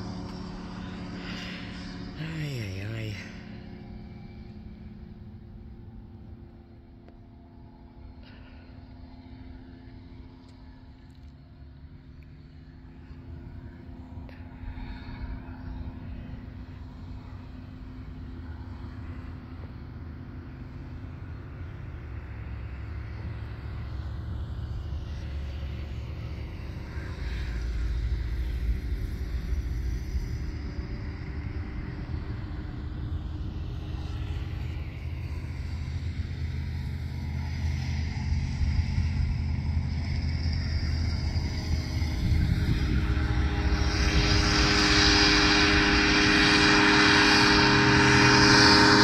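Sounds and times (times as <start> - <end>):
ultralight aircraft engine droning: 0.0 - 49.0.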